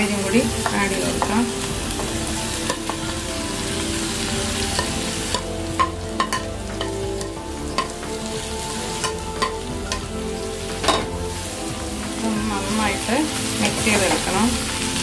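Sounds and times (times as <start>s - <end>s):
cabbage sizzling in hot oil: 0.0s - 15.0s.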